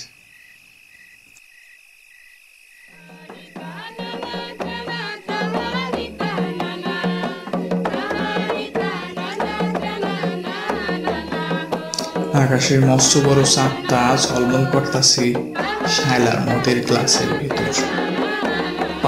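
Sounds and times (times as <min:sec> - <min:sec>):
crickets chirping: 0:00.0 - 0:19.0
folk music with hand drums: 0:03.0 - 0:19.0.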